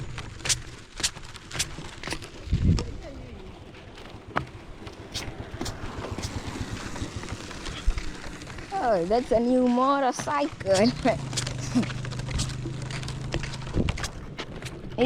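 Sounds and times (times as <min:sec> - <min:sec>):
quick footsteps: 0:00.0 - 0:15.0.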